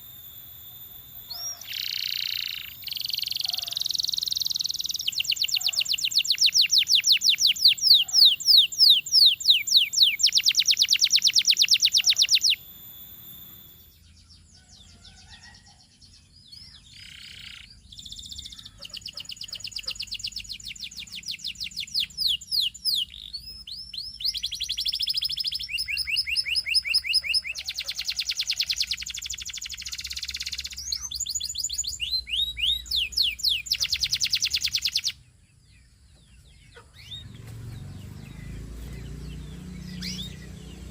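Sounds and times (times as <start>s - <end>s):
canary singing in fast trills: 0.0s - 40.9s.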